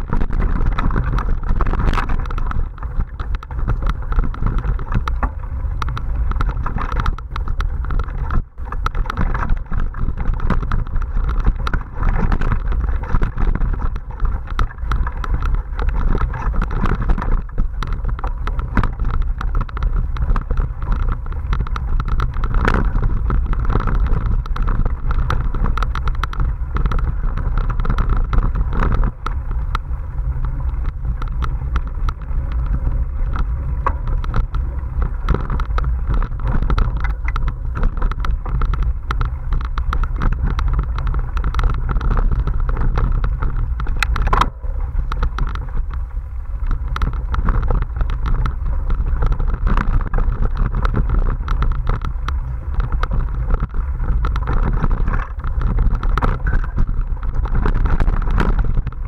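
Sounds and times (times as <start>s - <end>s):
bike rattling over bumps: 0.0s - 59.0s
tyres rolling on dirt: 0.0s - 59.0s
wind rumble on microphone: 0.0s - 59.0s.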